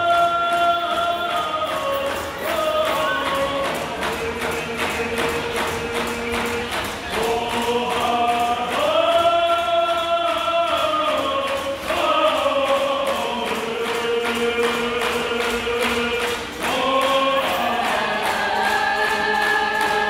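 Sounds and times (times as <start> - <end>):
group singing in unison: 0.0 - 20.0.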